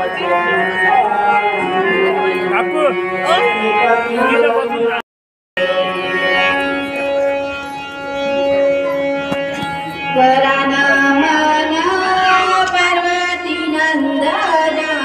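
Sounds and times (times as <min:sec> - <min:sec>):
devotional music held notes: 0:00.0 - 0:05.0, 0:05.6 - 0:15.0
person singing: 0:00.0 - 0:05.0, 0:05.6 - 0:07.4, 0:08.9 - 0:15.0.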